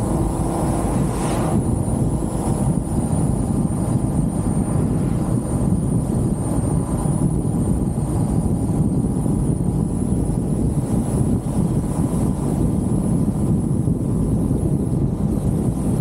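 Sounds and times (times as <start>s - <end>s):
road noise low rumble: 0.0s - 16.0s
wind buffeting microphone: 0.0s - 16.0s.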